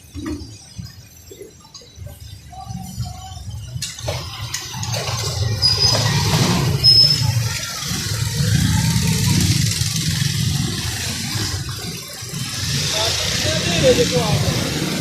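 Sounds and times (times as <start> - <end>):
engine rumbling: 0.0 - 15.0
street traffic passing: 0.0 - 15.0.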